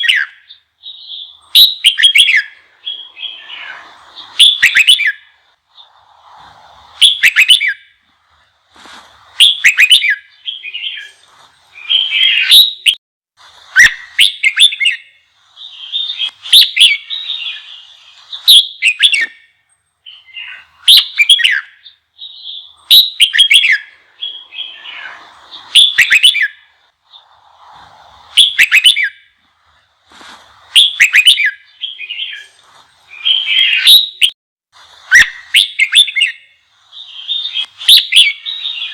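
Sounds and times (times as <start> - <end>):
bird singing whistled phrases: 0.0 - 6.0, 7.0 - 7.9, 9.4 - 13.0, 13.7 - 27.4, 28.4 - 29.3, 30.7 - 34.4, 35.0 - 38.9
soft low bird chatter: 0.0 - 38.9.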